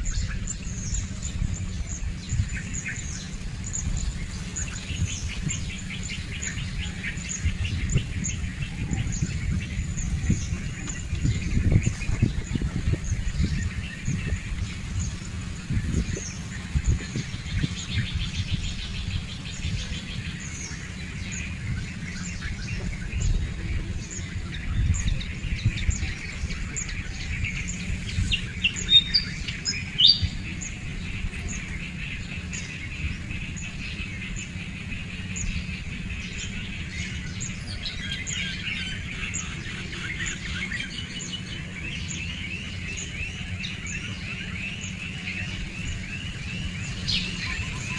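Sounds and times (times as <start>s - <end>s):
small birds chirping: 0.0s - 47.9s
steady low rumble: 0.0s - 47.9s.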